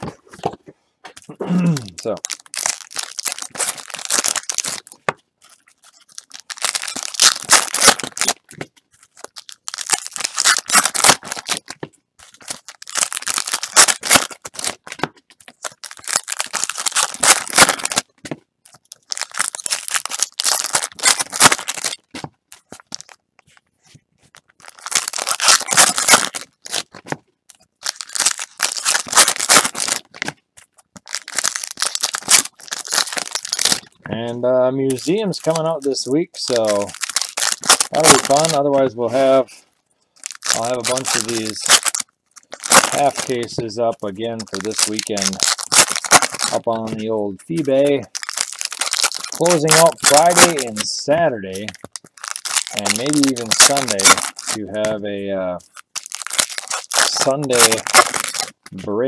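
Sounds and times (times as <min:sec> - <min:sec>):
wrappers torn and crinkled: 0:01.2 - 0:23.2, 0:24.3 - 0:34.0, 0:34.8 - 0:39.4, 0:40.1 - 0:55.0, 0:55.6 - 0:58.8.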